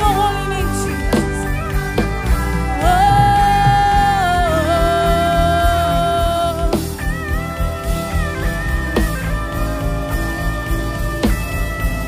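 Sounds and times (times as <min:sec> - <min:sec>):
bass guitar: 0:00.0 - 0:12.0
drums keeping steady beat: 0:00.0 - 0:12.0
electric guitar bending long notes: 0:00.0 - 0:12.0.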